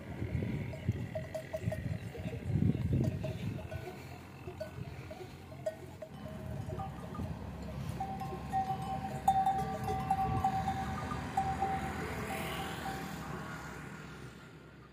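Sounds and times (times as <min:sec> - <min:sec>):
rustle of grazing animals: 0:00.0 - 0:14.9
livestock bells clinking: 0:00.1 - 0:13.6.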